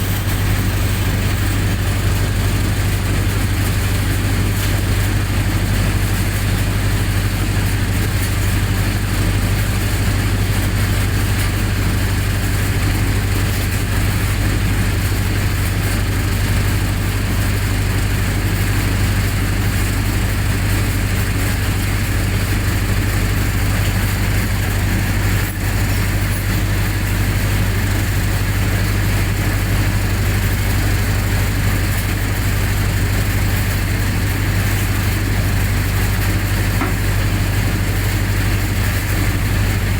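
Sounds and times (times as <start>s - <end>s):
generator engine running: 0.0s - 39.9s.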